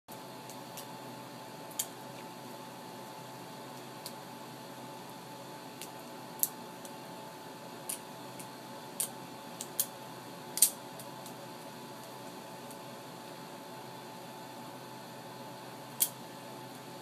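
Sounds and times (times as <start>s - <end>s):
faint hum: 0.1s - 17.0s.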